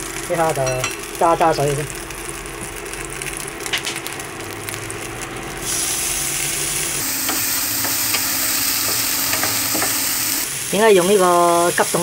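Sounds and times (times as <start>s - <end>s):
shrimp sizzling in a wok: 0.0s - 12.0s.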